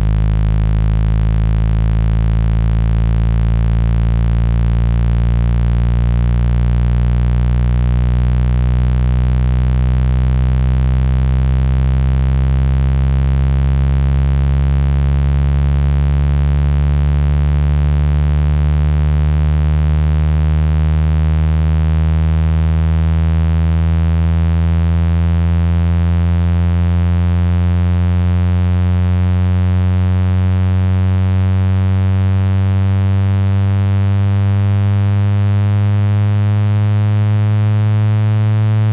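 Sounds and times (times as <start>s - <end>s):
low buzzing tone rising in pitch: 0.0s - 38.9s.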